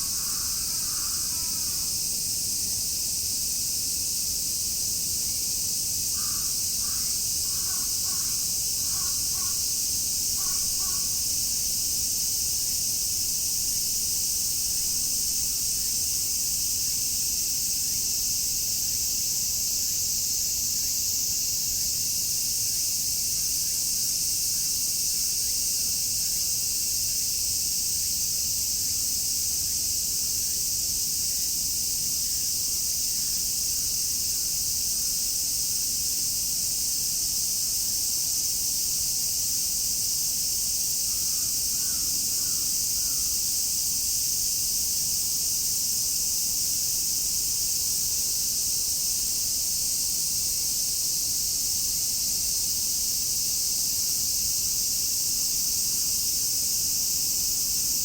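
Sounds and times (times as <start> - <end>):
cicadas shrilling: 0.0 - 58.0.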